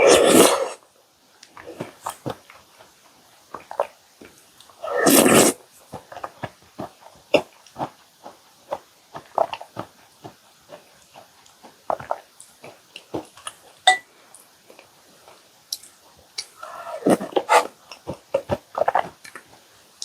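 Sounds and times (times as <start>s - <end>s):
cookies being chewed: 1.4s - 20.0s.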